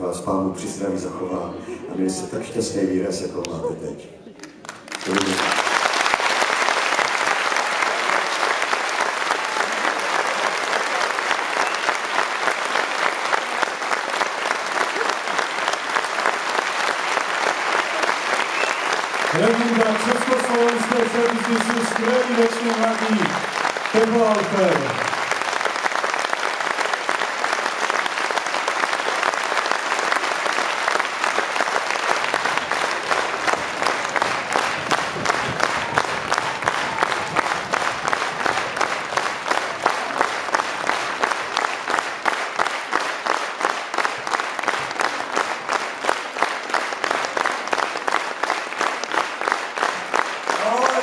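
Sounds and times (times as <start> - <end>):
audience applauding: 4.3 - 51.0.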